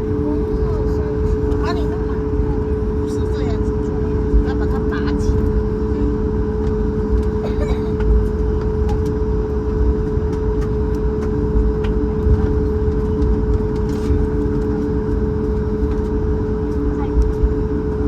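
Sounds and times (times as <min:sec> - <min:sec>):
jet engines idling in cabin: 0:00.0 - 0:18.0.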